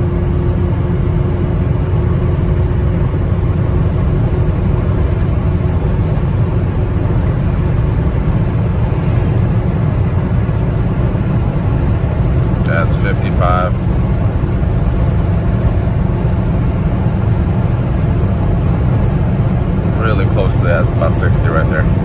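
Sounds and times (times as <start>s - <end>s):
diesel engine drone: 0.0s - 22.0s
road and tyre noise: 0.0s - 22.0s.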